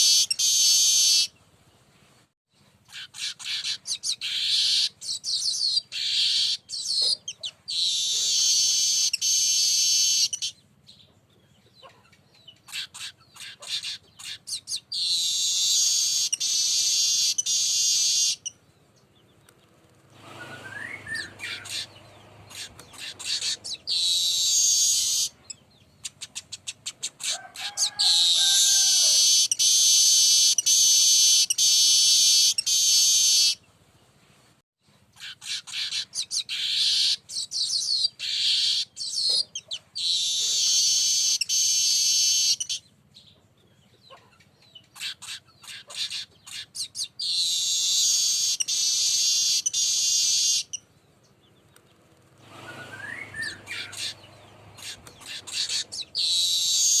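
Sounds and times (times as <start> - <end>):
weaver bird buzzy song: 0.0 - 27.4, 28.2 - 34.3, 35.1 - 57.0.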